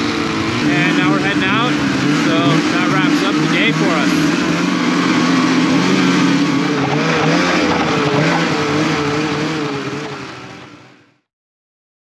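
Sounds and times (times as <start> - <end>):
snowmobile engine running: 0.0 - 11.2.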